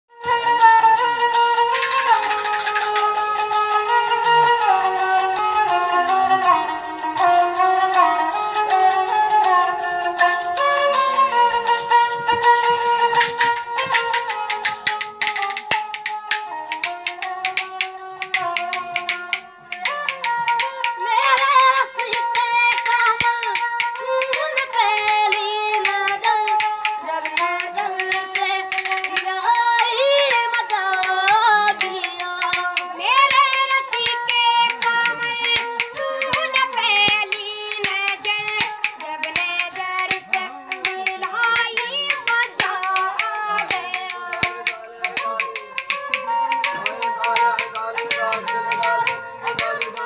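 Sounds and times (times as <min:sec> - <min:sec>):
bowed folk fiddle: 0:00.1 - 0:50.0
sharp hand-percussion clicks: 0:00.4 - 0:50.0
boys singing a folk song: 0:00.9 - 0:50.0.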